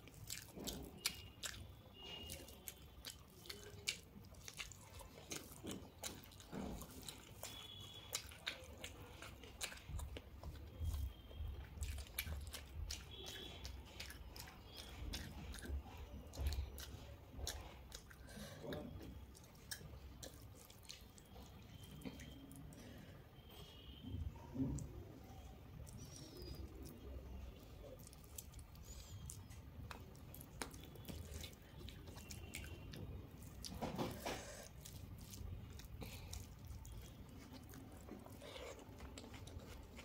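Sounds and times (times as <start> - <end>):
chewing food: 0.0 - 40.0.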